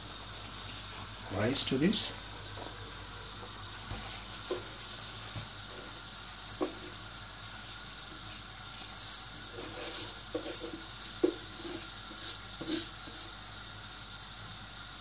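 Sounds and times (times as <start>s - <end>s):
water boiling with a hiss: 0.0s - 15.0s.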